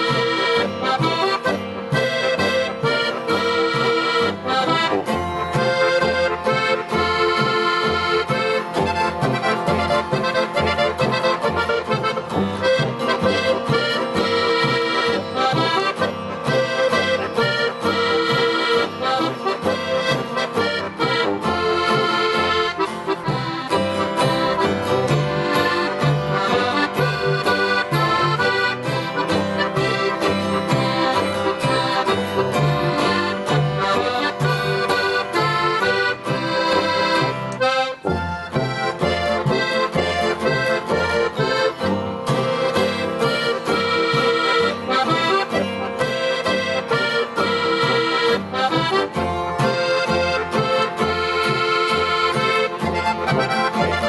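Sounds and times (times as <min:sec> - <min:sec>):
acoustic guitar: 0:00.0 - 0:54.0
brass horn: 0:00.0 - 0:54.0
button accordion: 0:00.0 - 0:54.0
plucked double bass: 0:00.0 - 0:54.0.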